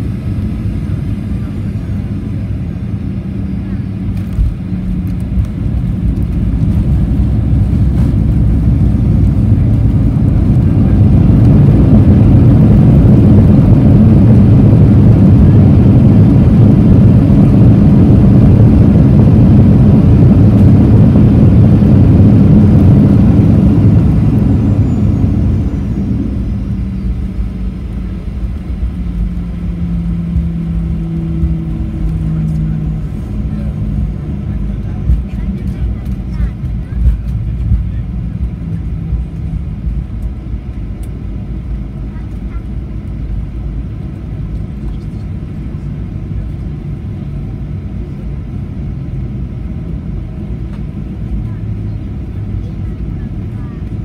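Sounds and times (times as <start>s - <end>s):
cabin rumble: 0.0s - 54.0s
jet engines in reverse thrust: 0.0s - 54.0s.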